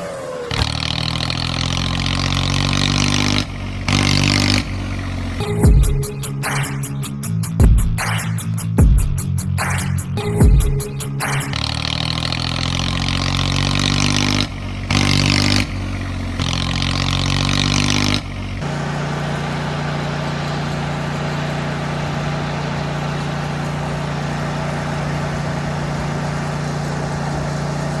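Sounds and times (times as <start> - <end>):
engine humming steadily: 0.0 - 28.0
vehicle engine revving: 0.0 - 28.0.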